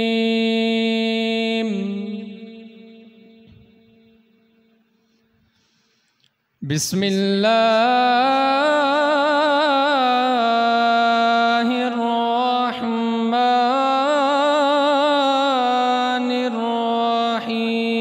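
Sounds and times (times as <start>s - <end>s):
man reciting through microphone: 0.0s - 4.0s, 6.6s - 18.0s.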